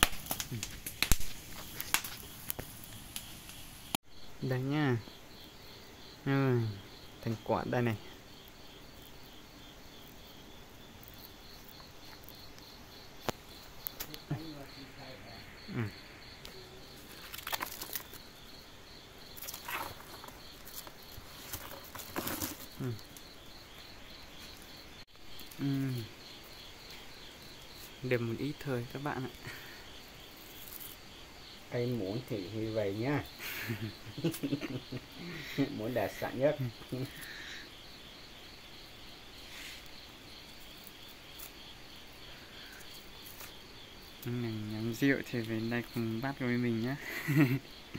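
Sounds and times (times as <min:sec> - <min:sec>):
insects chirping: 0:00.0 - 0:47.9.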